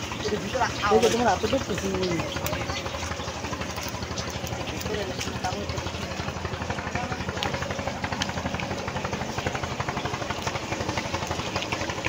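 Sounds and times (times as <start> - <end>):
small boat engine chugging: 0.0 - 12.0.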